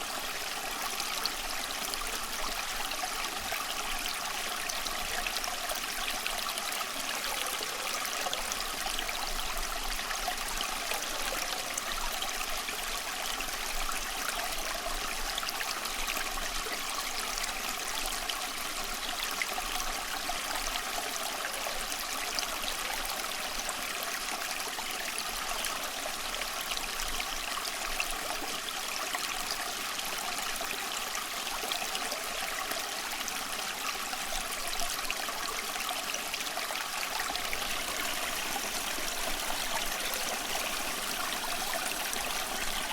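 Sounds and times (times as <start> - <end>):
stream babbling over stones: 0.0 - 42.9.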